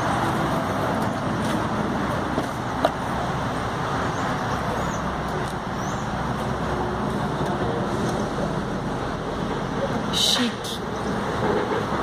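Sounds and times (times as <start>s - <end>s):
motor vehicle noise: 0.0s - 12.0s.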